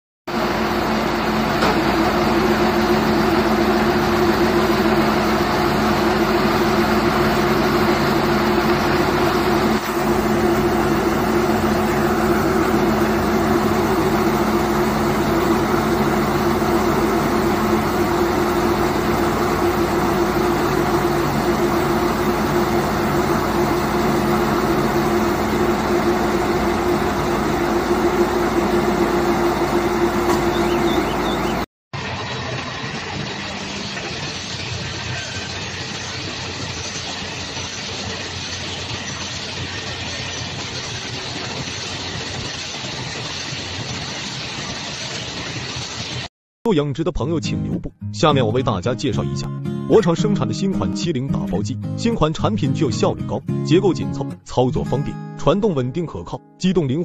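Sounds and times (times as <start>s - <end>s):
baler machine mechanical drone: 0.3s - 46.3s.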